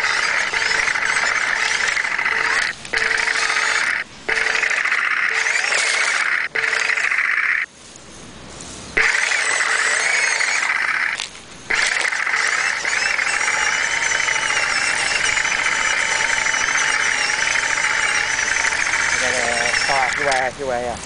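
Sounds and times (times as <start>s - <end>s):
model tank motors whining: 0.0s - 7.7s, 9.0s - 21.0s.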